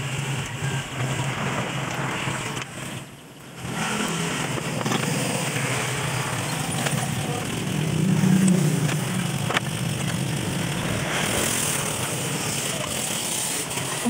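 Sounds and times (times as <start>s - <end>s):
steady mechanical drone: 0.0s - 14.0s.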